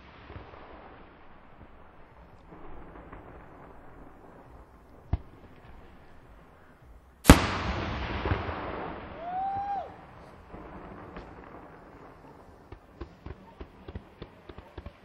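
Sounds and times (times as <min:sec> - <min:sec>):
echoing rumble and crackle: 0:00.0 - 0:15.0
fireworks bangs: 0:00.0 - 0:15.0.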